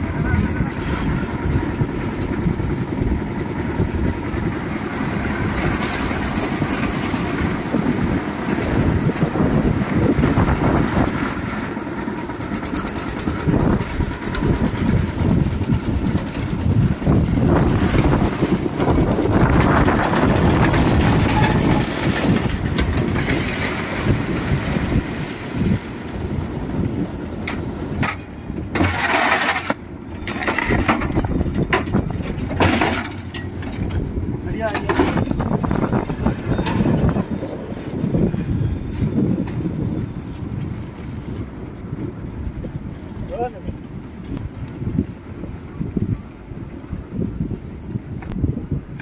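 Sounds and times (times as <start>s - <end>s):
concrete mixer engine droning: 0.0s - 39.9s.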